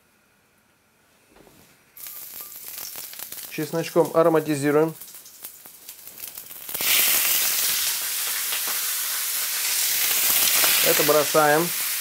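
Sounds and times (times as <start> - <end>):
food sizzling in oil: 2.0 - 12.0
oil crackling in a pan: 2.0 - 12.0.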